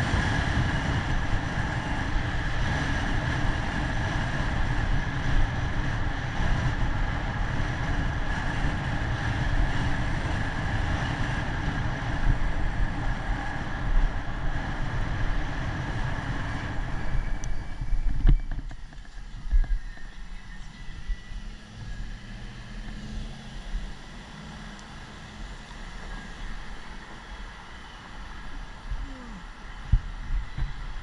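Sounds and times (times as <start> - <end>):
bicycle rolling noise: 0.0 - 29.0, 29.6 - 31.0
wind buffeting microphone: 0.0 - 31.0.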